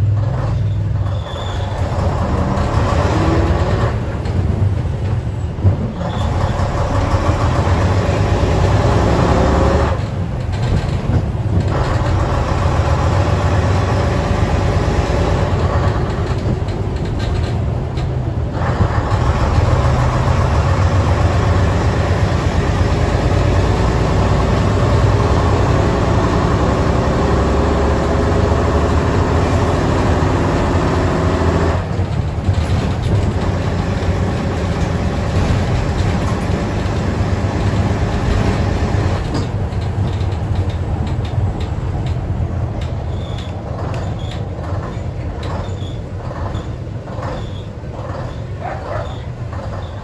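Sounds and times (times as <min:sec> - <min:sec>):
bus diesel engine pulling: 0:00.0 - 0:50.0.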